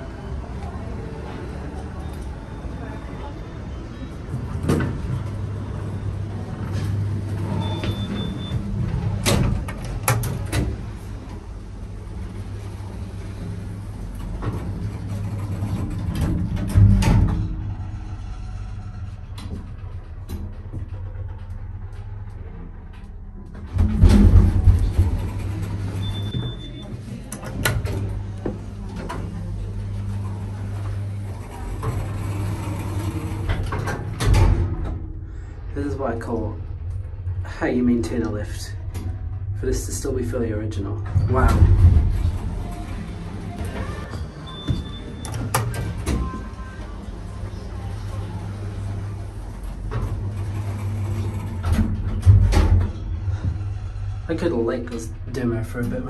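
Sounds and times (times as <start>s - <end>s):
lift doors opening: 0.0s - 56.0s
steady low hum: 0.0s - 56.0s.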